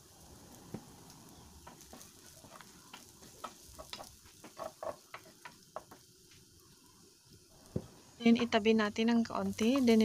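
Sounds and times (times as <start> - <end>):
meat sizzling: 0.0 - 10.0.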